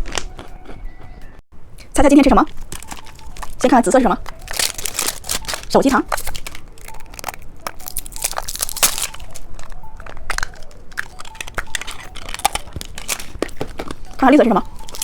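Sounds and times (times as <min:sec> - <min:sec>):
crinkling plastic candy packaging: 0:02.4 - 0:15.0.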